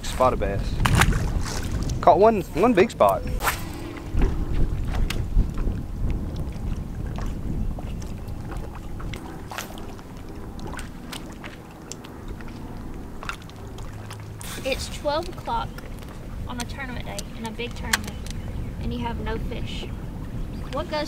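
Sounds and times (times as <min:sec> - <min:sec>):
water lapping against boat hull: 0:00.0 - 0:21.0
wind rumbling on microphone: 0:00.0 - 0:21.0.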